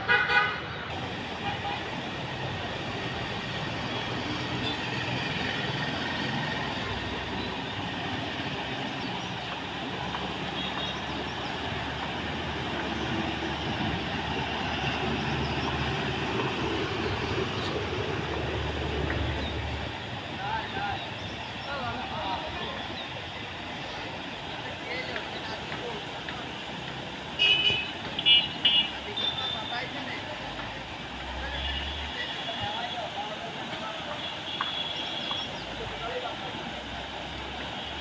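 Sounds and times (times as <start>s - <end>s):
heavy rumble of passing vehicles: 0.0s - 38.0s.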